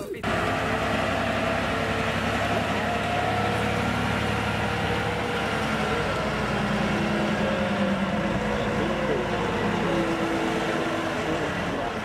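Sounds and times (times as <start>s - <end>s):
forklift engine running: 0.1s - 12.0s
shifting whine: 0.2s - 12.0s.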